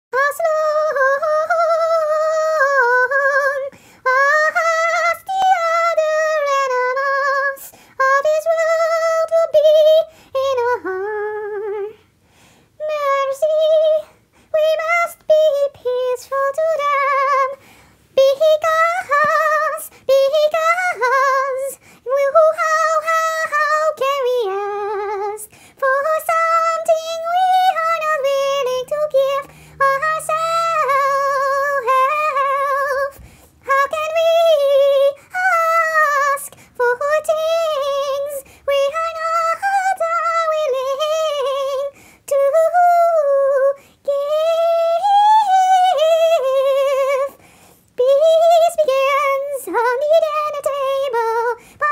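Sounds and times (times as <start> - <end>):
person singing with vibrato: 0.1 - 51.9.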